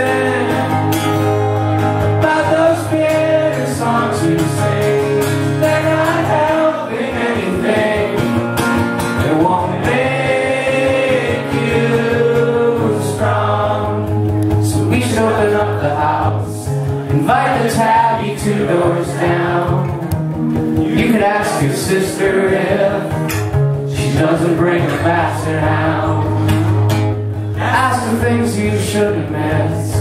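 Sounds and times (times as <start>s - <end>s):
man singing into a microphone: 0.0s - 0.9s, 2.2s - 8.3s, 9.2s - 20.0s, 20.8s - 23.3s, 23.9s - 26.7s, 27.5s - 30.0s
acoustic guitar strumming: 0.0s - 30.0s.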